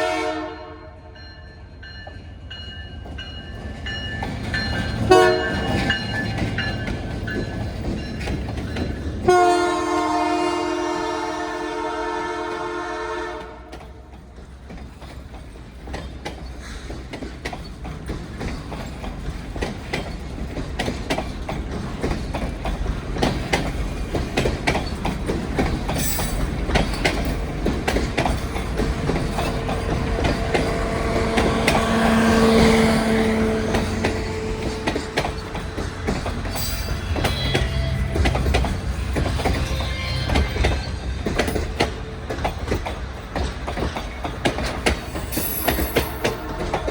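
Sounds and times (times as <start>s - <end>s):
train rumble: 0.0s - 46.9s
train wheels clicking over rail joints: 1.8s - 46.9s.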